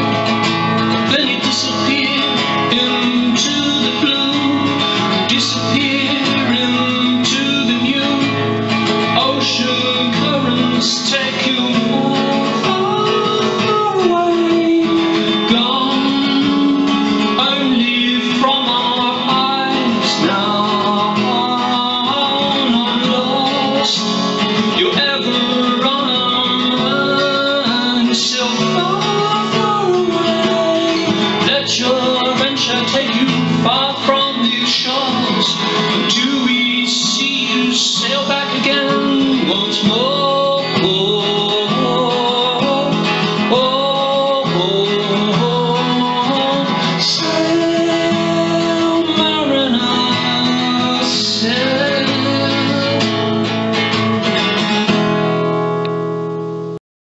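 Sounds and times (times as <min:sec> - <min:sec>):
acoustic guitar strumming: 0:00.0 - 0:56.8.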